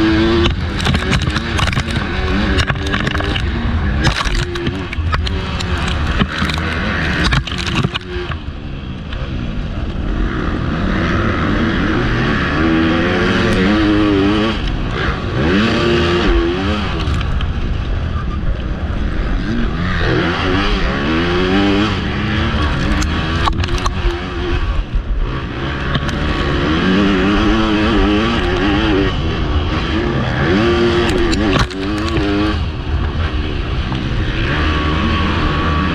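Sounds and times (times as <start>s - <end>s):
motocross bike engine revving: 0.0s - 8.5s, 10.1s - 18.0s, 19.1s - 35.9s.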